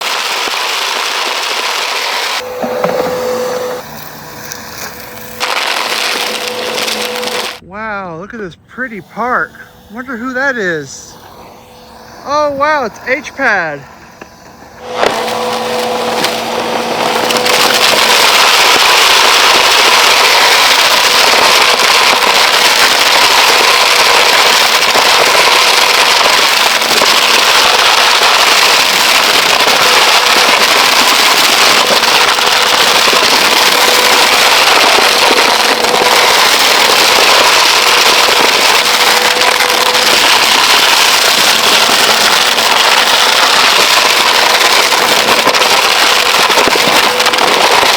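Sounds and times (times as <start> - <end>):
grit crackling in vacuum: 0.0 - 7.6, 9.9 - 47.9
vacuum cleaner motor hum: 0.0 - 7.6, 11.1 - 47.9.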